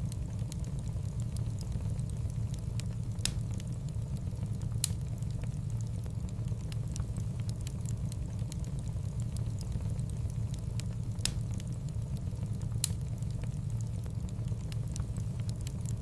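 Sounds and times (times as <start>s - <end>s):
fire crackling: 0.0s - 16.0s
fire flames rumbling: 0.0s - 16.0s
fire pops: 0.0s - 16.0s.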